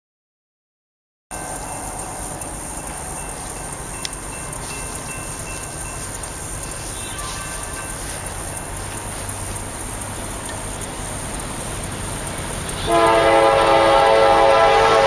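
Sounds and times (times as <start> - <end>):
distant diesel freight train rumble: 1.3 - 15.0
high hiss: 1.3 - 15.0.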